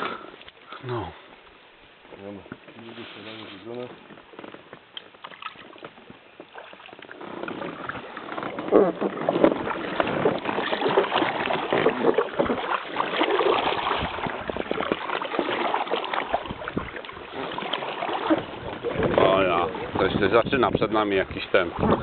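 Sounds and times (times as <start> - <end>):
water splashes and knocks: 2.1 - 22.0.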